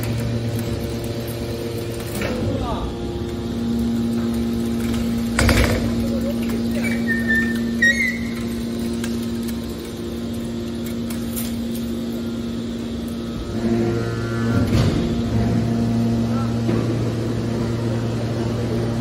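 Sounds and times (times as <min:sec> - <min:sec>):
hydraulic baler humming: 0:00.0 - 0:19.0.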